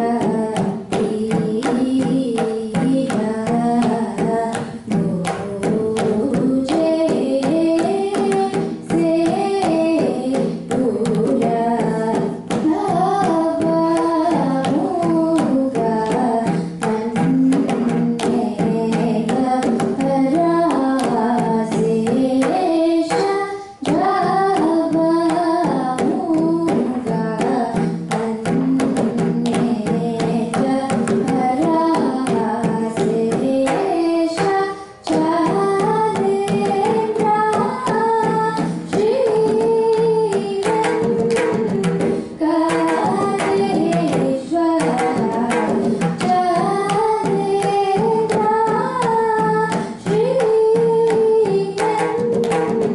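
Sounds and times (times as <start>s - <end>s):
girl singing: 0.0s - 52.9s
mridangam strokes: 0.0s - 52.9s.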